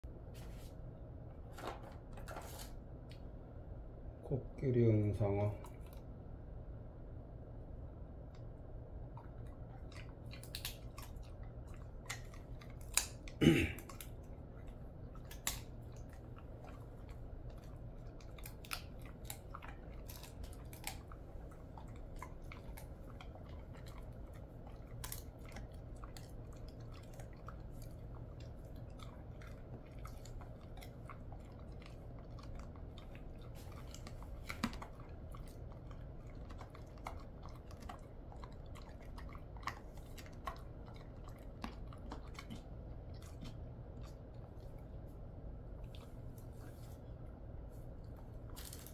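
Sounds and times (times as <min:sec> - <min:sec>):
dog chewing a crunchy treat: 0:08.4 - 0:47.1, 0:47.8 - 0:48.9.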